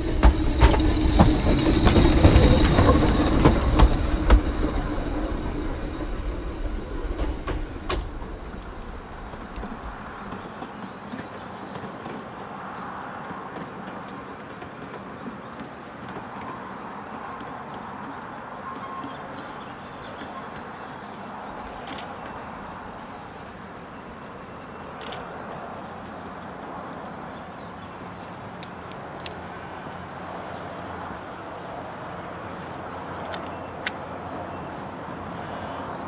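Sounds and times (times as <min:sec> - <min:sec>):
distant train rumble: 0:00.0 - 0:36.0
faint birdsong: 0:00.0 - 0:36.0.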